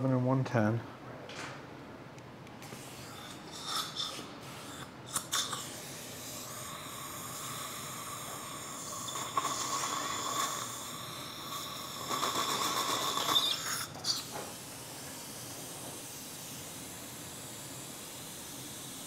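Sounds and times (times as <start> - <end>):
dental handpiece whine: 2.6 - 19.0
suction tip hiss: 2.6 - 19.0.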